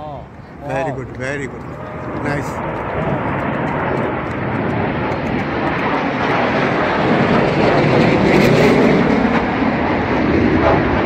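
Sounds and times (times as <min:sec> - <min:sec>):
aircraft flying past: 0:00.2 - 0:11.0.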